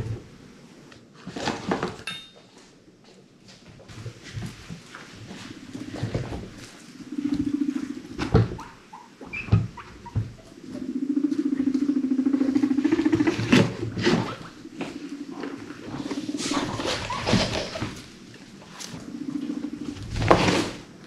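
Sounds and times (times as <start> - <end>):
guinea pig rumbling: 3.9 - 21.0.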